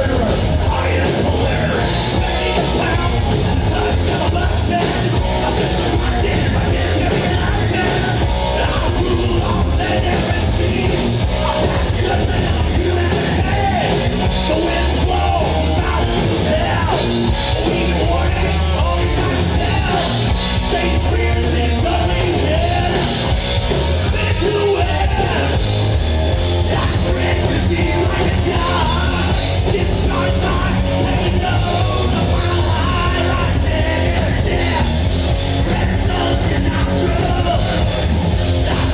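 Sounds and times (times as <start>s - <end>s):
person singing: 0.0s - 23.2s, 26.5s - 38.9s
heavy metal band playing: 0.0s - 38.9s.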